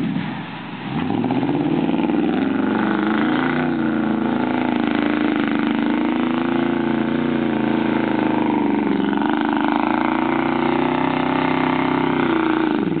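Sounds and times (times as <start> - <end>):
truck engine running hard: 0.0 - 13.0
wheels spinning in sand: 0.0 - 13.0.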